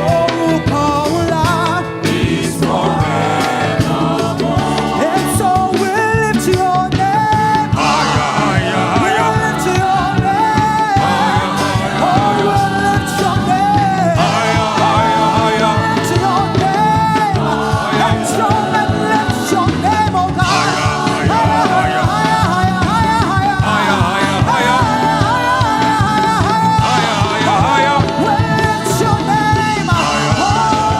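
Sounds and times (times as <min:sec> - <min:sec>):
band playing: 0:00.0 - 0:30.9
person singing: 0:00.0 - 0:30.9.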